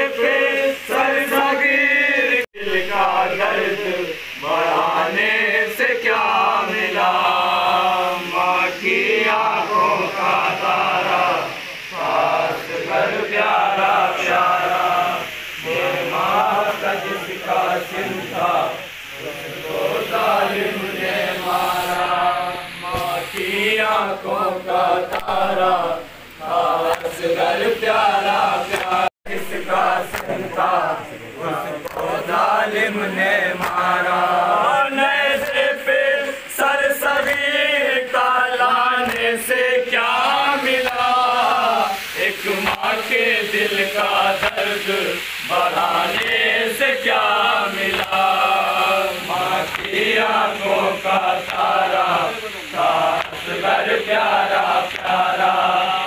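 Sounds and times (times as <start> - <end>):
men chanting in unison: 0.0 - 56.0.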